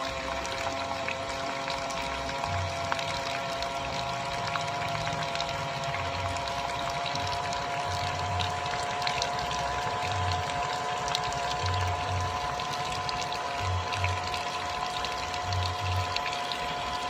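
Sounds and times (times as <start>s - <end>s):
water pouring and splashing: 0.0s - 17.0s
water pump motor whining: 0.0s - 17.0s.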